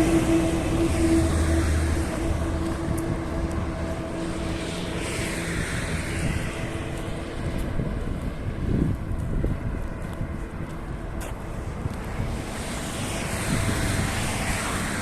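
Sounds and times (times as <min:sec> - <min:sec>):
vehicle passing by: 0:00.0 - 0:10.6, 0:11.4 - 0:15.0
steady engine hum: 0:00.0 - 0:15.0.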